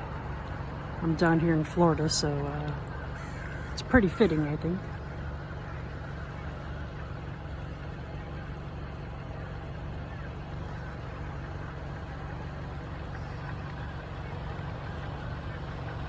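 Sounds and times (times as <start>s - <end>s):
low vehicle hum: 0.0s - 16.0s.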